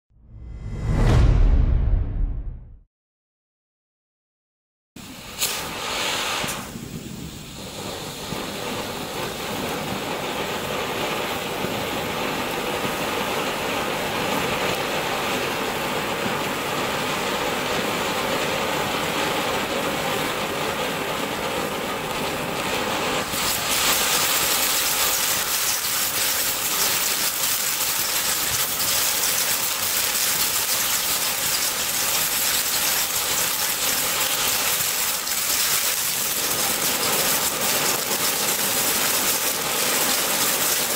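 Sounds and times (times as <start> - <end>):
firework crackling: 5.0 - 40.9
firework hissing: 5.0 - 40.9.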